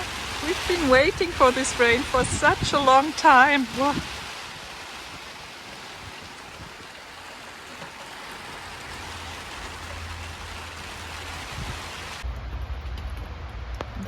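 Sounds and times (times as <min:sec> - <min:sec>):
rain falling: 0:00.0 - 0:12.3.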